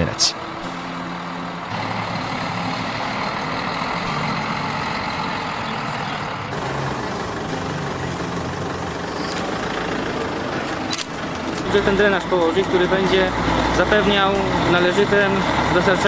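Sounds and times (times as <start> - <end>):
heavy machine diesel engine running: 0.0 - 16.0.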